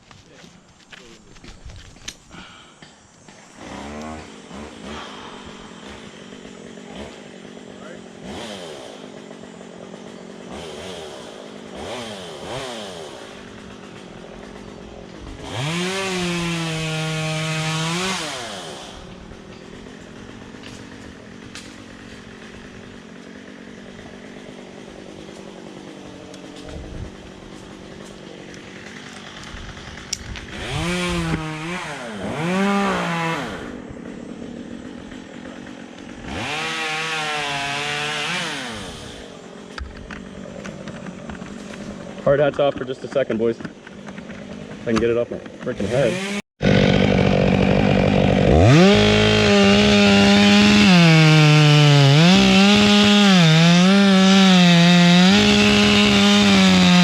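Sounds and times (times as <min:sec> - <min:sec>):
chainsaw idling and revving: 0:01.8 - 0:57.0.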